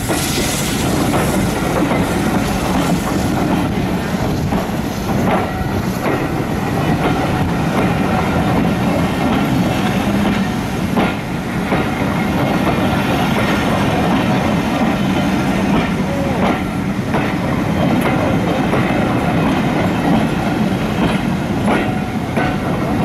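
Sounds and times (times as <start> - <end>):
train wheels rumbling on rails: 0.0 - 23.0
wheels clacking over rail joints: 0.0 - 23.0.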